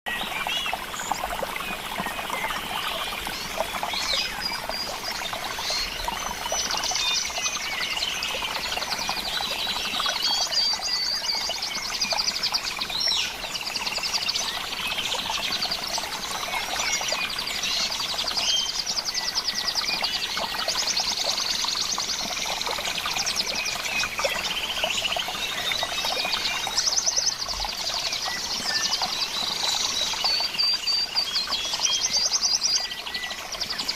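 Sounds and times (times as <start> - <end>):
birds singing and trilling: 0.1 - 33.9
trickle of running water: 0.1 - 33.9.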